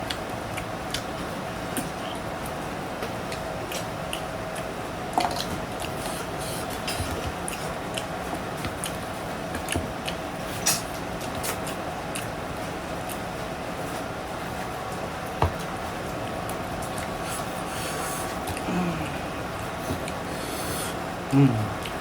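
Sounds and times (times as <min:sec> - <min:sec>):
wet chewing and smacking: 0:00.0 - 0:13.3, 0:14.9 - 0:20.3.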